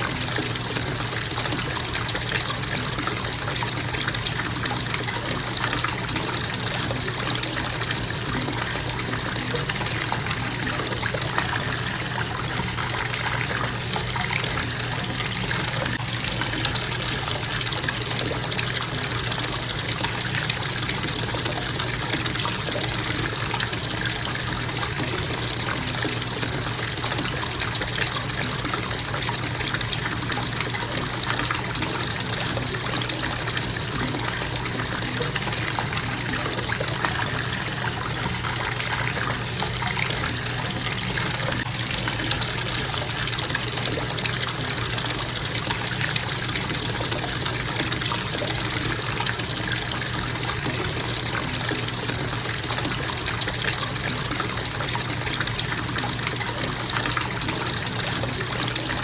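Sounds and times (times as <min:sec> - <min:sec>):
faucet water splashing into tub: 0:00.0 - 0:59.0.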